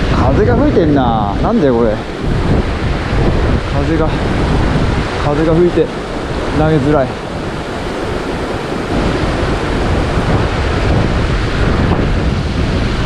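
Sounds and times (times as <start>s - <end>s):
running stream water: 0.0s - 12.7s
wind gusting on microphone: 0.0s - 13.0s.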